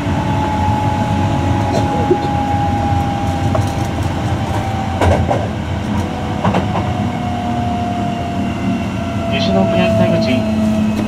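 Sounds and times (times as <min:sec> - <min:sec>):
wheel-on-rail rumble: 0:00.0 - 0:11.0.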